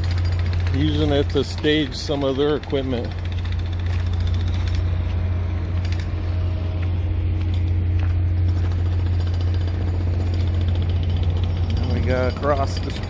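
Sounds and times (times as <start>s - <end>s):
construction machinery engine hum: 0.0s - 13.0s.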